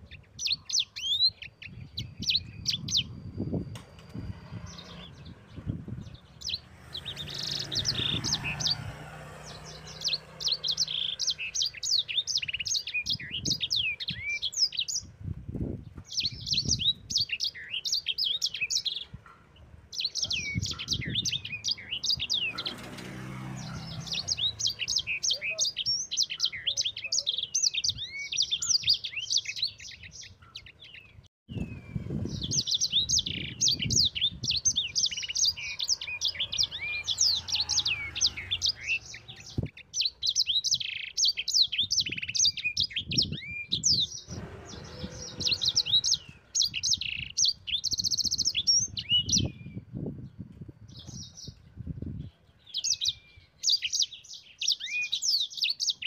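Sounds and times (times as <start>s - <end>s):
finch chirping song: 0.0s - 56.0s.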